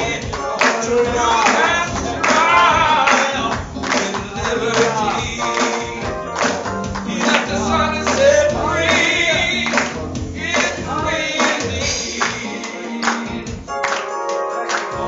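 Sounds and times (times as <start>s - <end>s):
gospel singing with instruments: 0.0s - 15.0s.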